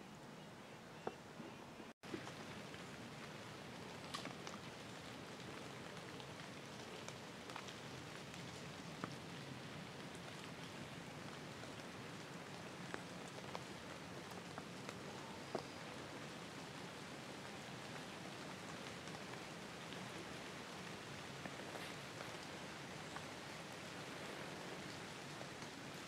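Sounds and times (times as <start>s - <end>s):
light rain hiss: 0.0s - 26.0s.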